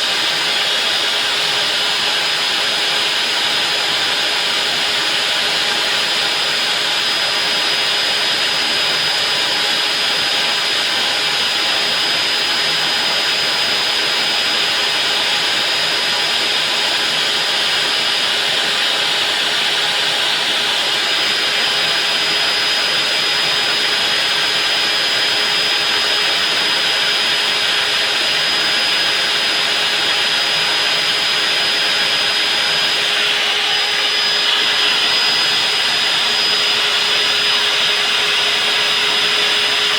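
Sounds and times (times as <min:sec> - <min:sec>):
core drill grinding concrete: 0:00.0 - 0:39.9.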